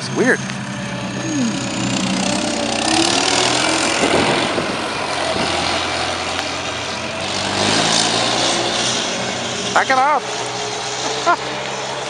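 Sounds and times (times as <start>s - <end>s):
road and tyre noise: 0.0s - 12.0s
vehicle engine hum: 0.0s - 12.0s.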